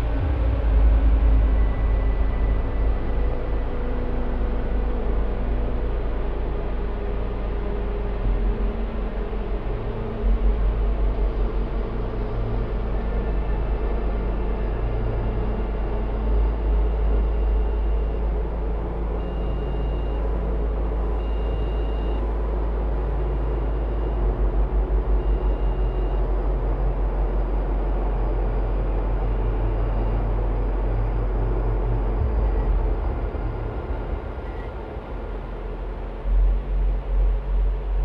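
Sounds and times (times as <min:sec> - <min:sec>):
dark ambient electronic music: 0:00.0 - 0:38.0
deep bass drone: 0:00.0 - 0:38.0.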